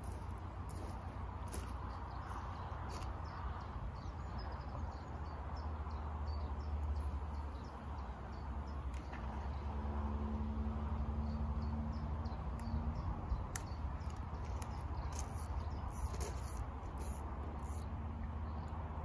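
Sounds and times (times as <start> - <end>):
small birds chirping: 0.0 - 9.7, 11.2 - 18.8.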